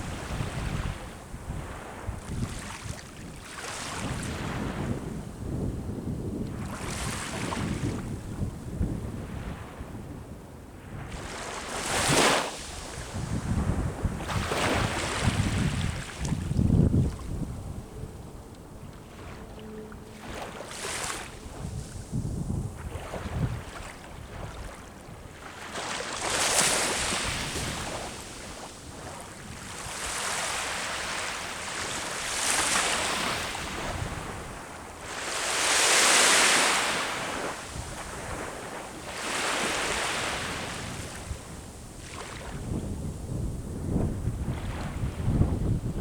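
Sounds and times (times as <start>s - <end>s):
ocean waves breaking on shore: 0.0s - 5.7s, 6.3s - 10.0s, 10.8s - 46.0s
wind rumble on microphone: 0.0s - 46.0s.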